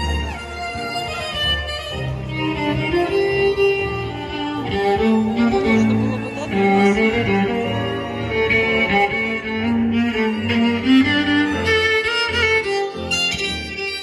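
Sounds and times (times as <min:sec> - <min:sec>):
bowed strings playing slow notes: 0:00.0 - 0:14.0.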